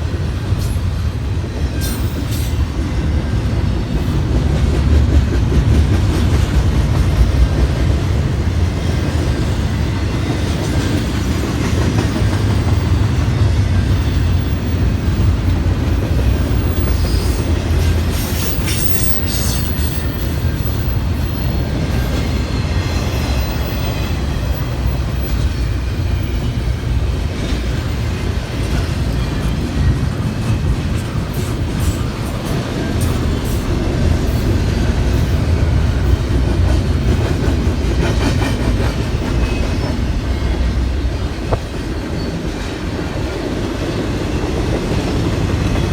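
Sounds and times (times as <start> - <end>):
freight train cars rumbling: 0.0 - 45.9.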